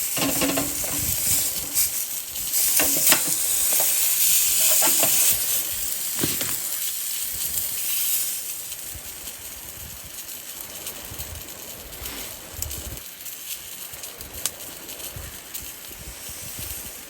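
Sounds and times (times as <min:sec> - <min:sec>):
faint crackles: 0:00.0 - 0:17.0
food sizzling in a frying pan: 0:00.0 - 0:17.0.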